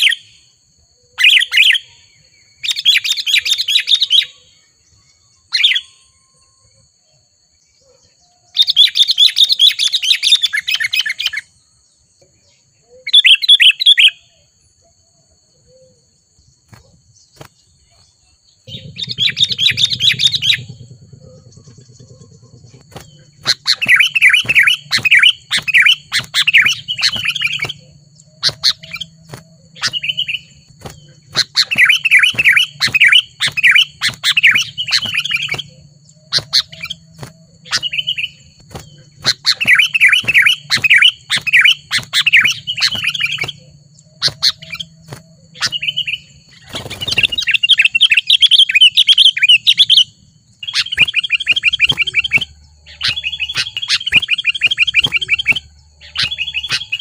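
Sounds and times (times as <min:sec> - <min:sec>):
bird singing bubbling chirps: 0:00.0 - 0:57.0
faint steady high whine: 0:00.0 - 0:57.0.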